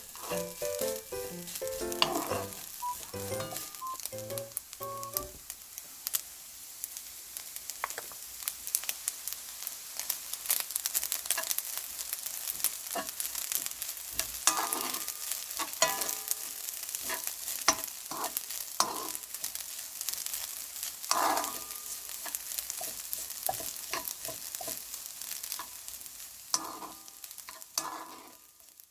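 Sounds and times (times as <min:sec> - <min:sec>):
rice sizzling in a frying pan: 0:00.0 - 0:28.9.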